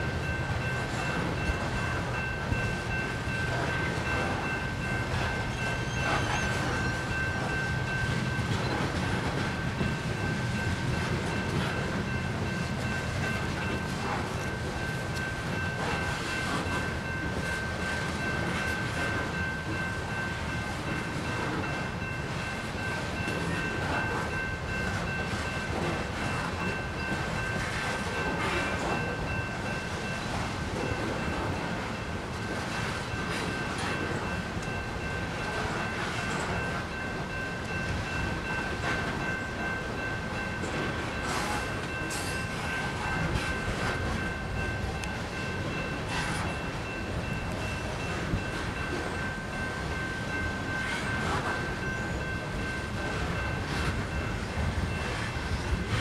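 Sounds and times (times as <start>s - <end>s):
crossing bell ringing: 0.0s - 56.0s
train wheels rumbling on rail: 0.0s - 56.0s.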